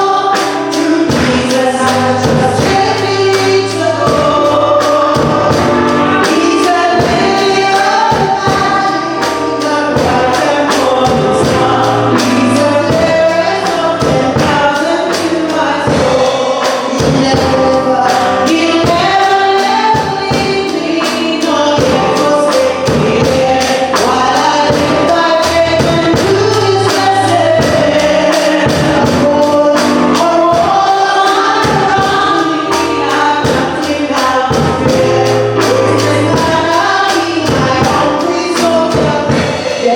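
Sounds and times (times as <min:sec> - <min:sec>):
choir singing gospel music: 0:00.0 - 0:39.9.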